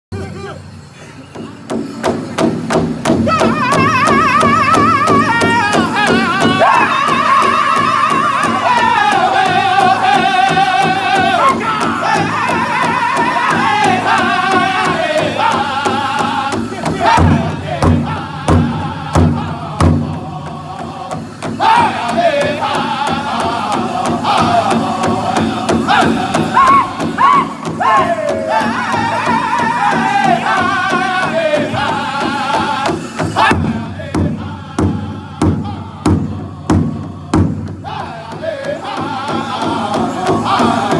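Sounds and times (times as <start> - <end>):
group singing high wavering lines: 0.6 - 40.9
large drum beating: 1.3 - 40.9.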